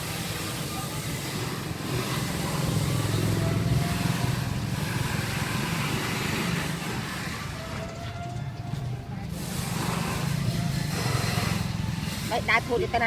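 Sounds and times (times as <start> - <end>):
street noise: 0.0 - 13.0
vehicle engine passing: 1.2 - 13.0.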